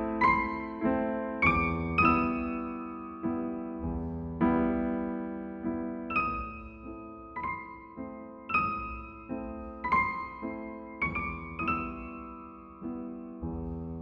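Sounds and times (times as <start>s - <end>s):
slow gentle solo piano: 0.0s - 14.0s.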